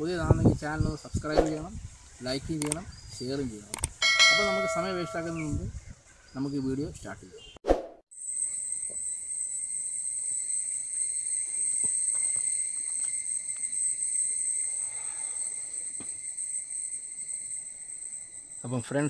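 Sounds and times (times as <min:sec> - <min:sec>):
insect chorus shrilling: 0:00.0 - 0:07.4, 0:08.2 - 0:19.0.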